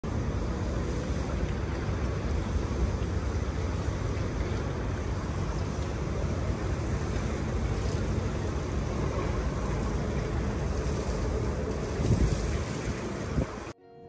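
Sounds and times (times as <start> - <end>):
distant city noise: 0.0 - 13.8
wind rumble on microphone: 0.0 - 13.8.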